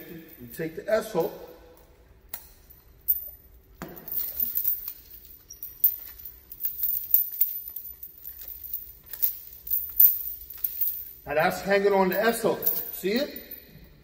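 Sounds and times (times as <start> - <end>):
steel chain clinking and rattling: 0.0 - 14.0.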